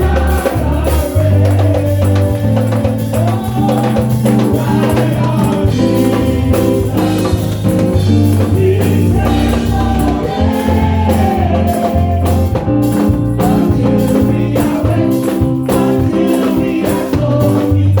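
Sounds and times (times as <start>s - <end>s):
gospel singing: 0.0s - 18.0s
held bass line: 0.0s - 18.0s
tambourine shaking: 0.0s - 18.0s.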